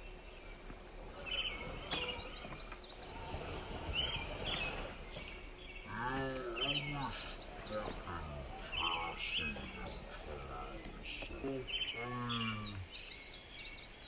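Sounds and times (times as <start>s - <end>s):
birds chirping and whistling: 0.0s - 14.0s
steady outdoor hiss: 0.0s - 14.0s.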